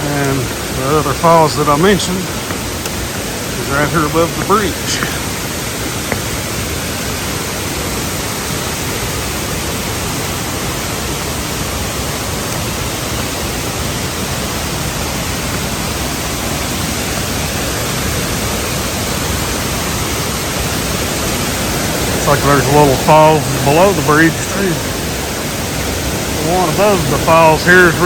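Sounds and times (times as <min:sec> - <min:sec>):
small waterfall rushing: 0:00.0 - 0:28.0.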